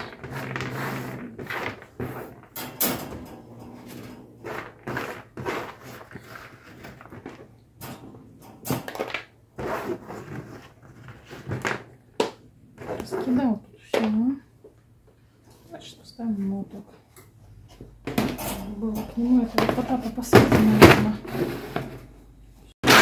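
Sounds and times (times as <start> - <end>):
knocks and clatters of handling: 0.0 - 15.7, 16.8 - 22.2.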